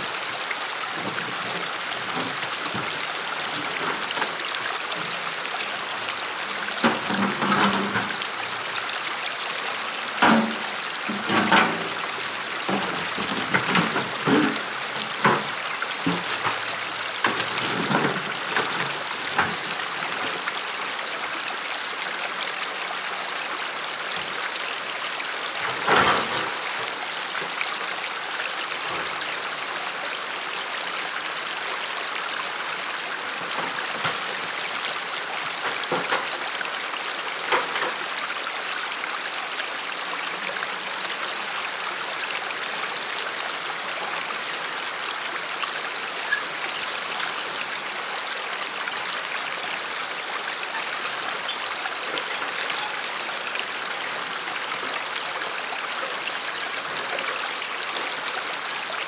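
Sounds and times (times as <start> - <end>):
creek running over stones: 0.0 - 59.0.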